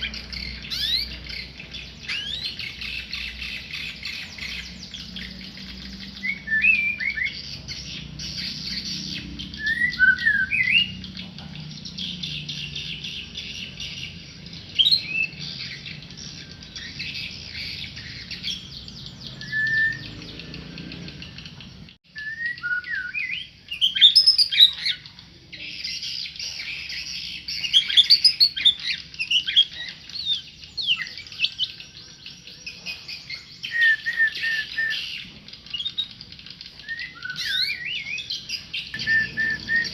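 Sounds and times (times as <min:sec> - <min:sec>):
songbird singing whistled phrases: 0:00.0 - 0:11.2, 0:12.0 - 0:39.9
twittering chatter: 0:00.0 - 0:21.9, 0:23.4 - 0:39.9.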